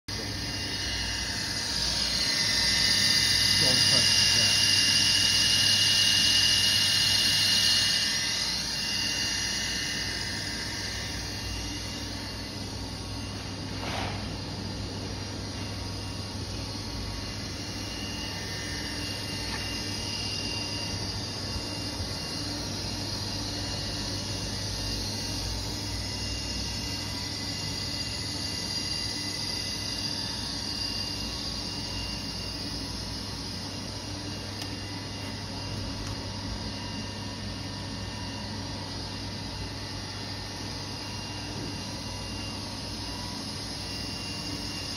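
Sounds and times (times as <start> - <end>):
machinery drone: 0.1 - 44.9.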